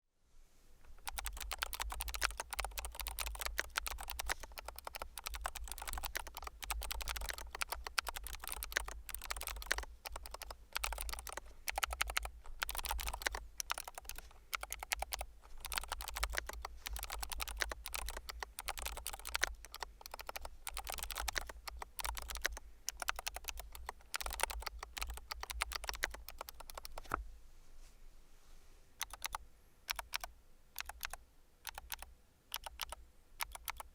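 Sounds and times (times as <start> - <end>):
fast keyboard typing: 1.0 - 27.2, 29.0 - 33.9.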